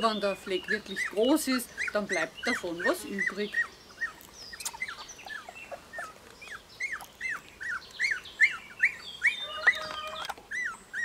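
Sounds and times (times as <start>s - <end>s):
puppy whimpering squeaks: 1.8s - 11.0s.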